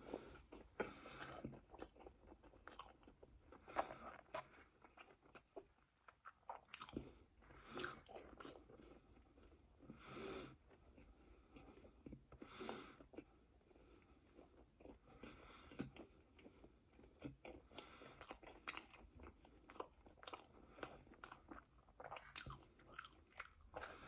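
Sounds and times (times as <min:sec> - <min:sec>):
person chewing pizza: 0:00.0 - 0:24.0.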